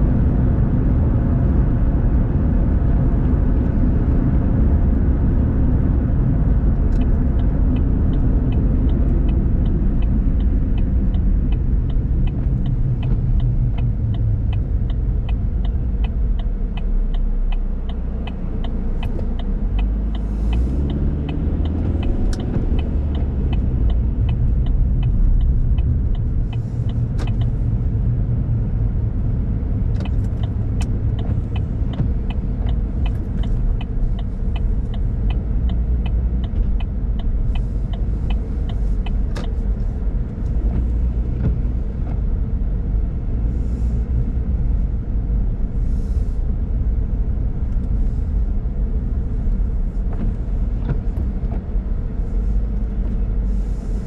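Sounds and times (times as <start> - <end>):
car engine from inside cabin: 0.0 - 54.0
turn signal ticking: 0.1 - 54.0.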